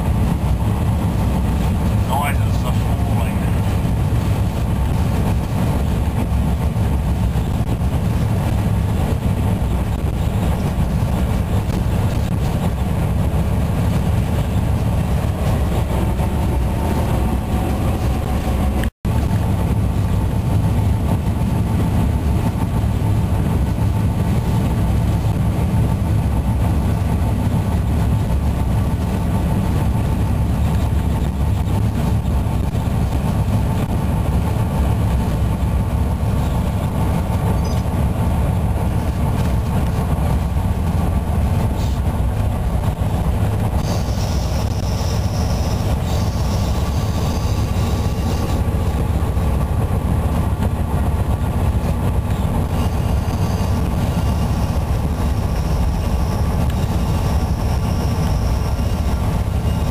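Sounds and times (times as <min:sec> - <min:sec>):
locomotive engine drone: 0:00.0 - 0:59.9
wheel and rail running noise: 0:00.0 - 0:59.9.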